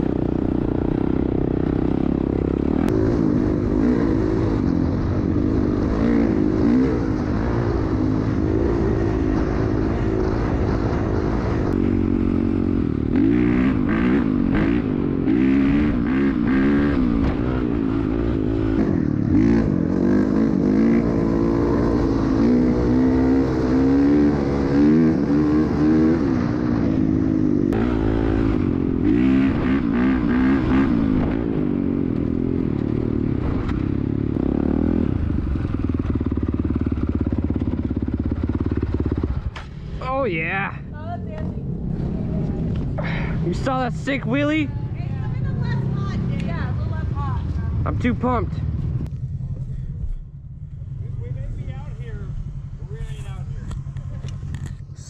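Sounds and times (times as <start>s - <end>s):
dirt bike engine revving: 0.0s - 44.5s.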